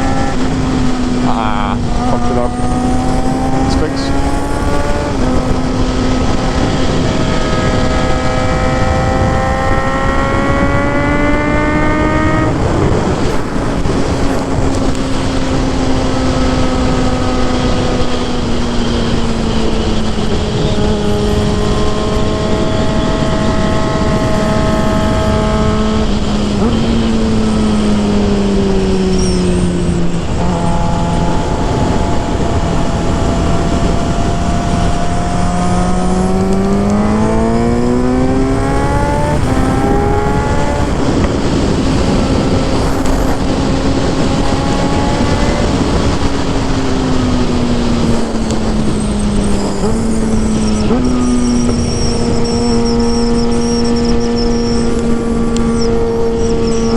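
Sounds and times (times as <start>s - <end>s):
heavy wind noise: 0.0s - 56.9s
motorcycle engine at speed: 0.0s - 56.9s.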